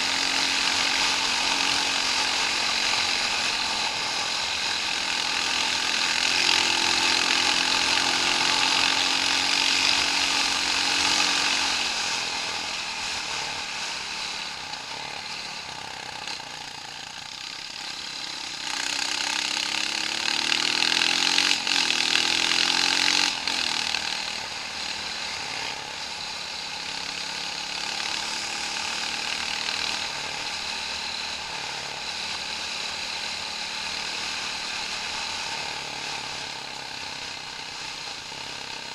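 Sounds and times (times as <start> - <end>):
off-road vehicle engine revving: 0.0 - 16.6, 17.2 - 38.9
steady rushing noise: 0.0 - 38.9.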